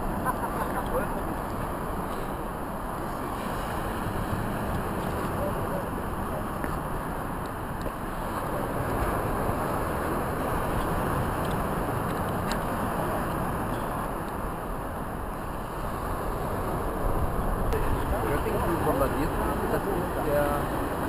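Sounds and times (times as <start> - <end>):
surf washing onto sandy beach: 0.0 - 21.0
wind buffeting microphone: 0.0 - 21.0.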